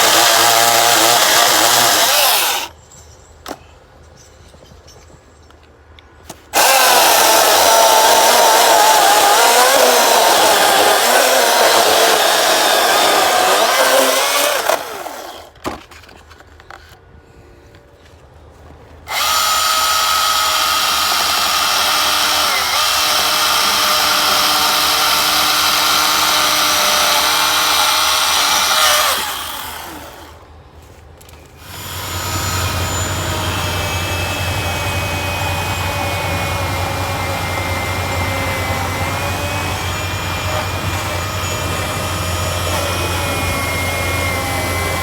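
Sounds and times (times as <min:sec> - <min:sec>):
battery chainsaw whine: 0:00.0 - 0:02.7, 0:06.6 - 0:15.5, 0:19.1 - 0:30.4, 0:31.6 - 0:45.0.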